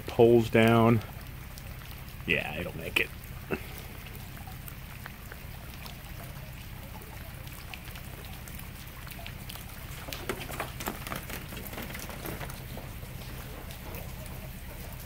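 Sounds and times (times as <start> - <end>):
boat motor running: 0.0 - 15.0
water drips and patters: 0.0 - 15.0.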